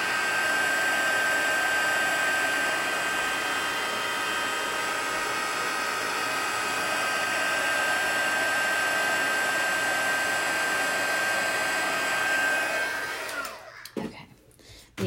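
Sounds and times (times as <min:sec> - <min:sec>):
heat tool blowing air with whine: 0:00.0 - 0:13.7.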